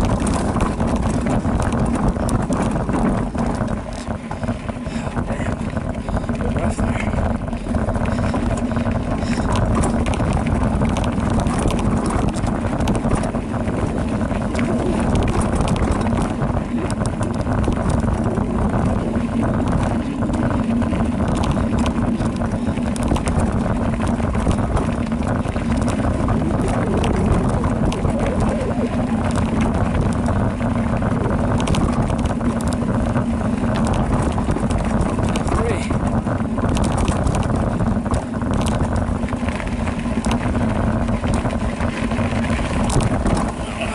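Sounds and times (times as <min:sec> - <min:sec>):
bike clicks and rattles: 0:00.0 - 0:43.9
low hum: 0:00.0 - 0:43.9
tyres and wind rushing rumble: 0:00.0 - 0:43.9.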